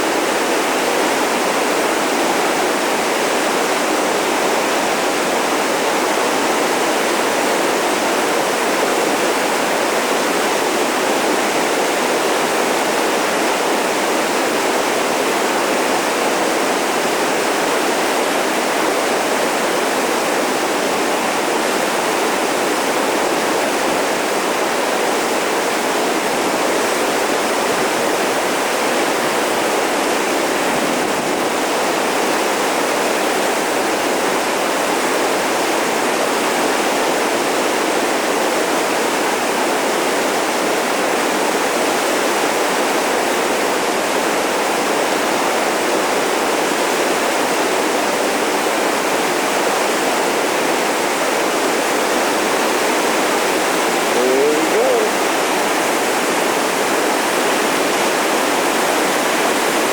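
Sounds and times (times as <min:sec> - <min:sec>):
whitewater rapids roaring: 0:00.0 - 0:59.9.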